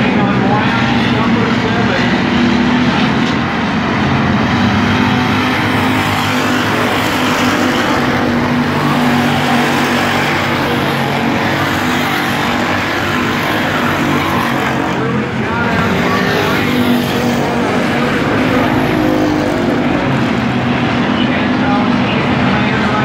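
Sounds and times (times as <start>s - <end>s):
stock car engines racing: 0.0s - 23.0s.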